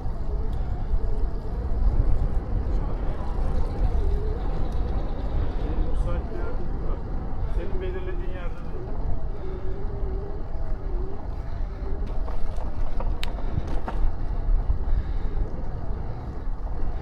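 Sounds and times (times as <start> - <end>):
bicycle tyre and road noise: 0.0 - 17.0
wind buffeting microphone: 0.0 - 17.0.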